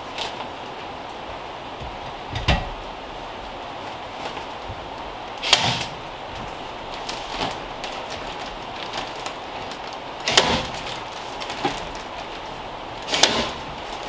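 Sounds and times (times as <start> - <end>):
insulation rustling: 0.0 - 14.0.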